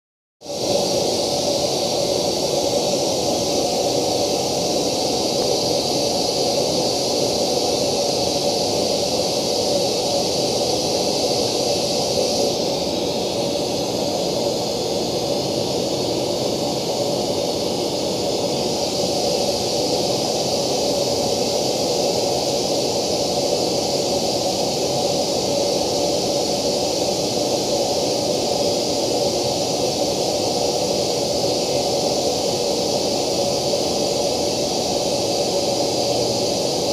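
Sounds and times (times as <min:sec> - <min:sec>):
hiss-like test noise from loudspeaker: 0:00.4 - 0:36.9.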